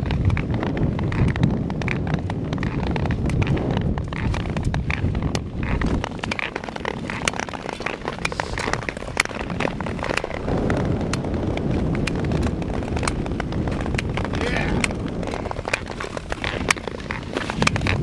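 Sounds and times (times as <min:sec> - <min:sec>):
skate blades scraping ice: 0:00.0 - 0:18.0
wind buffeting microphone: 0:00.0 - 0:18.0.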